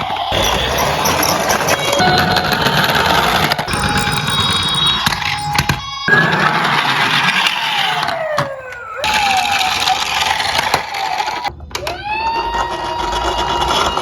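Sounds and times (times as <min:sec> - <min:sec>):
toy ambulance siren wailing: 0:00.0 - 0:13.8.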